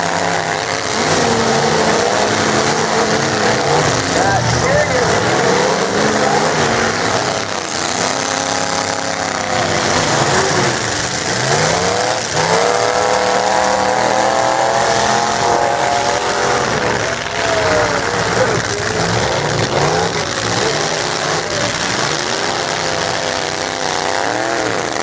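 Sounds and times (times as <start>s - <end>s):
truck engines revving: 0.0s - 25.0s.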